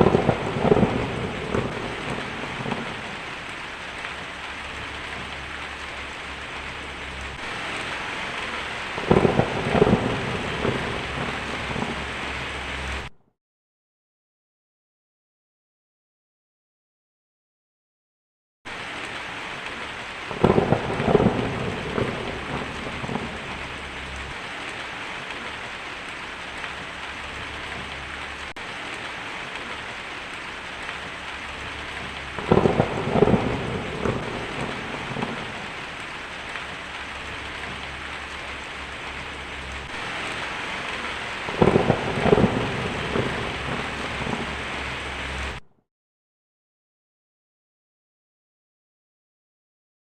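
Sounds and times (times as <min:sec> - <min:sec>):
heavy rain: 0:00.0 - 0:13.1, 0:18.7 - 0:45.6
thunder rumbling: 0:00.0 - 0:13.1, 0:18.7 - 0:45.6.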